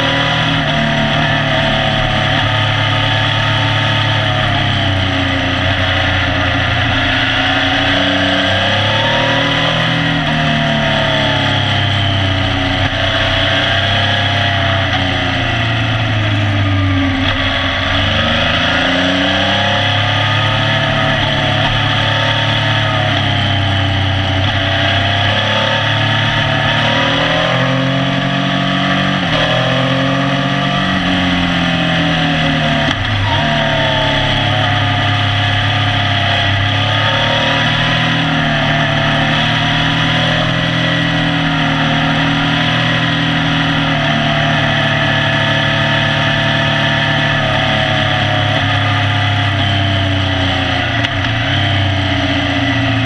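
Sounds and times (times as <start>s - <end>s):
motorcycle engine revving: 0.0s - 53.0s
wind and road noise: 0.0s - 53.0s.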